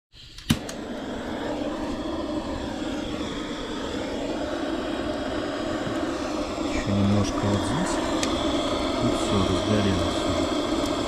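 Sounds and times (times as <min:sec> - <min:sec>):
steady rushing with low hum: 0:00.7 - 0:11.0.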